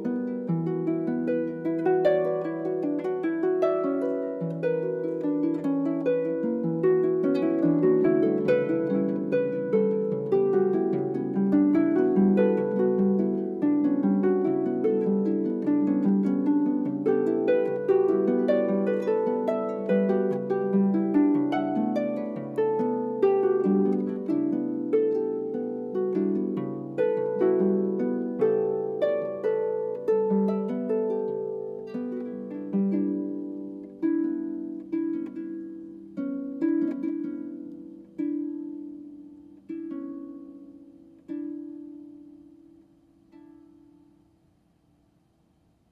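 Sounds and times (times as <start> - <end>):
solo harp playing: 0.0 - 45.1.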